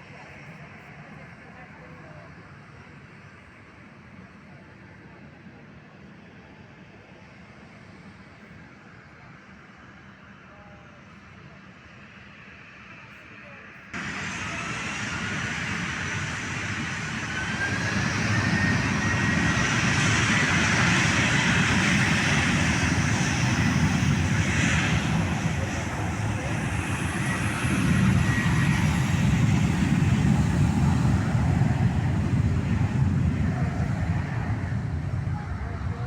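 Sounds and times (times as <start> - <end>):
airliner engines roaring: 0.0 - 36.0.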